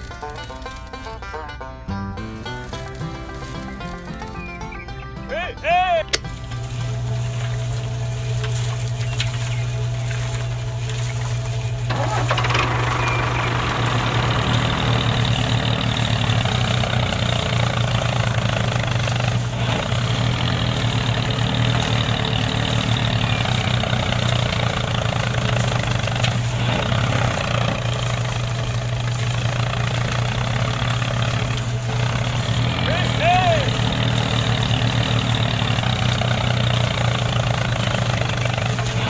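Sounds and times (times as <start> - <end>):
small tractor engine running: 0.0 - 39.0.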